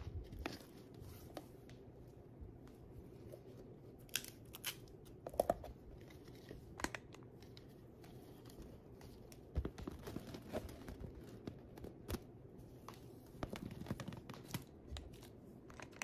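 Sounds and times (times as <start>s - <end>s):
plastic crinkling and rustling: 3.2s - 16.0s.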